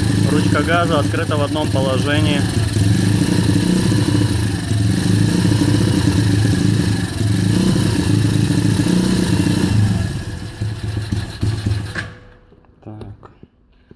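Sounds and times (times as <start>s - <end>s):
engine hunting and sputtering: 0.0s - 12.3s.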